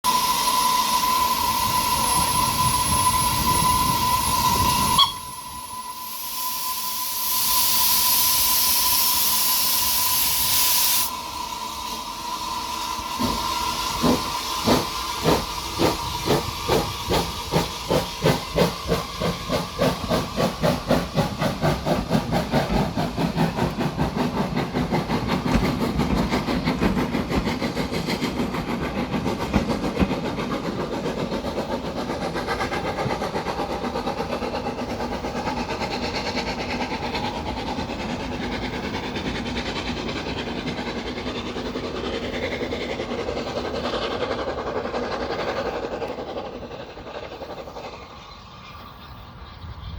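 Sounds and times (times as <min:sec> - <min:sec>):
steady whistle tone: 0:00.0 - 0:49.9
steam locomotive chuffing: 0:00.0 - 0:49.9
steam hissing: 0:00.1 - 0:49.9.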